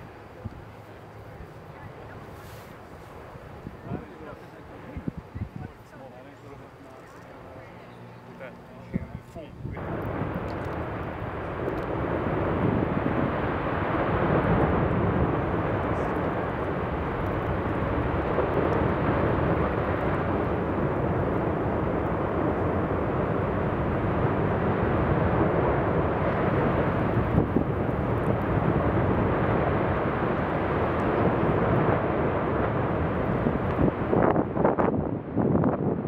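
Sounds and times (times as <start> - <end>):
wind on microphone: 0.0 - 5.8, 8.9 - 36.0
lava fountain rushing rumble: 0.0 - 6.5, 9.6 - 36.0.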